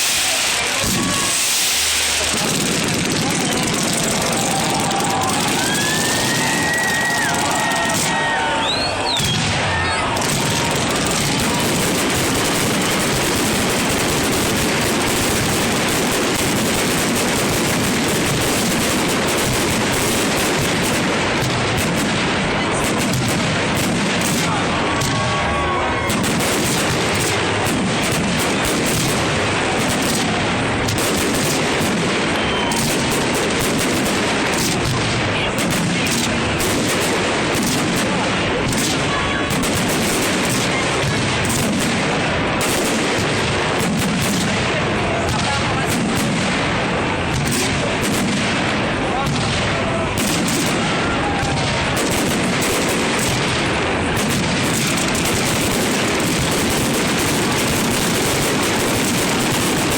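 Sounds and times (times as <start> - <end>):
fireworks bangs and crackle: 0.0 - 59.9.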